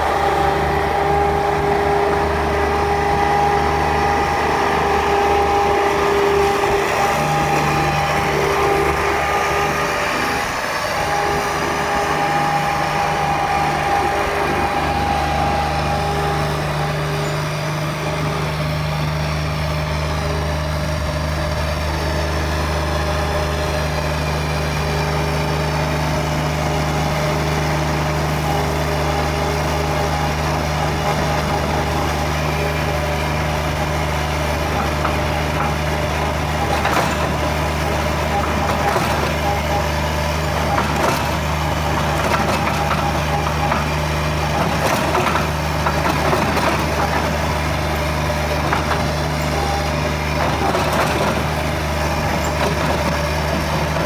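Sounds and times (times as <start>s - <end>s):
small diesel engine running: 0.0s - 54.0s.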